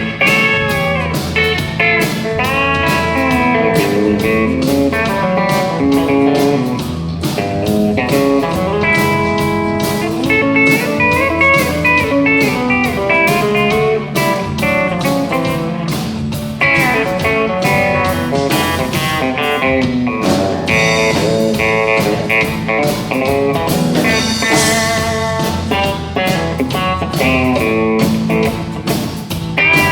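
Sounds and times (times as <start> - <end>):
pedal steel guitar: 0.0 - 29.9
steady beat: 0.0 - 29.9.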